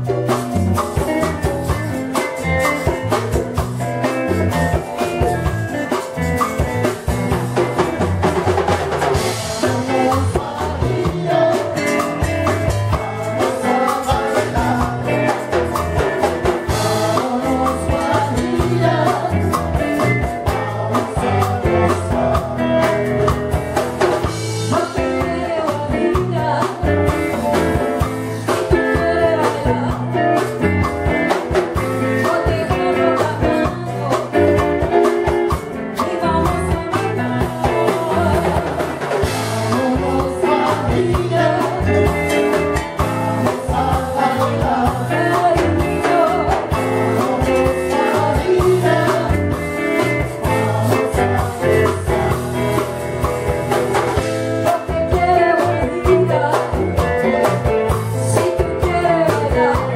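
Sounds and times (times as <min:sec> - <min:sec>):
live salsa band playing: 0:00.0 - 0:59.9
men singing: 0:09.1 - 0:59.9.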